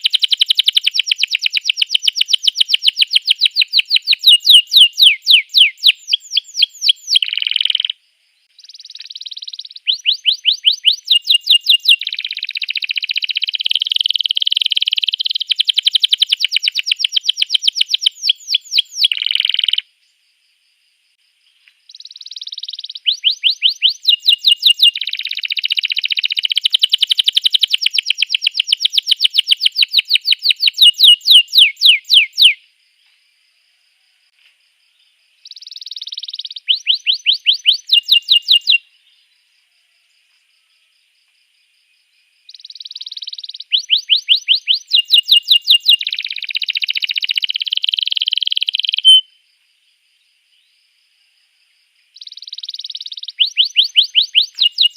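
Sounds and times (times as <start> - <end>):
canary singing trills: 0.0 - 19.9, 21.9 - 32.6, 35.4 - 39.3, 42.4 - 49.4, 52.2 - 54.9.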